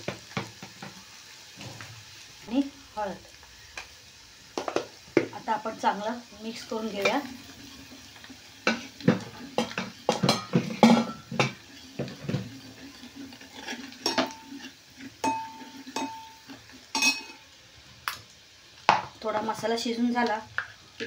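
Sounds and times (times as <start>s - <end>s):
paste frying in oil: 0.0s - 21.0s.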